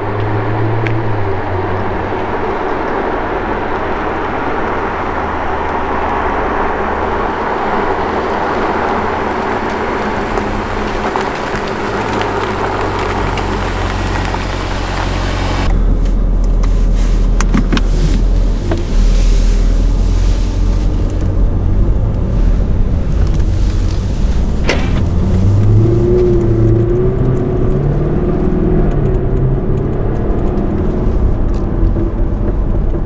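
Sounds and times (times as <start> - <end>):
car engine driving: 0.0 - 33.0.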